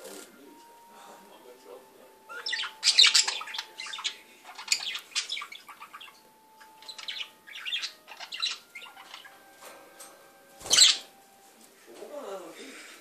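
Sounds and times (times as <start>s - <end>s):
budgerigars chirping: 0.4s - 11.2s.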